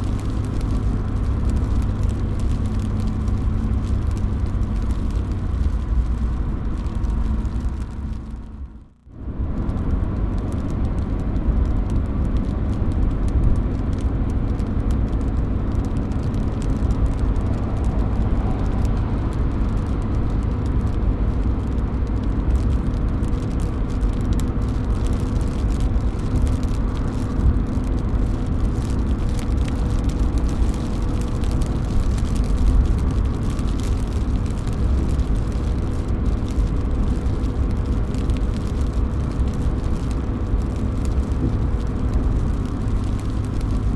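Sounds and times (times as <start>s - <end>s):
drops falling from a roof: 0.0s - 8.6s, 9.5s - 43.9s
steady rain: 0.0s - 43.9s.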